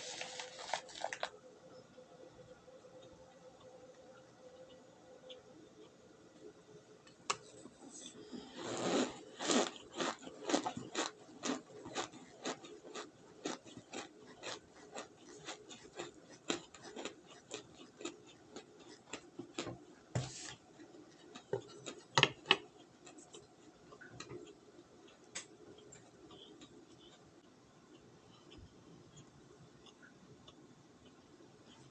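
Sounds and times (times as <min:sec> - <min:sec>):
chewing crunchy food: 0:00.0 - 0:01.4, 0:07.3 - 0:31.9.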